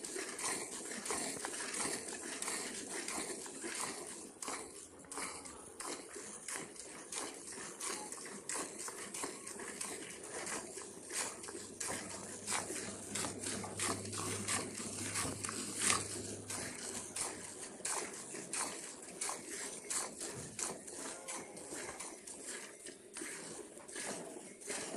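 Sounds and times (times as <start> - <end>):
milk squirting into metal pail: 0.0 - 24.9.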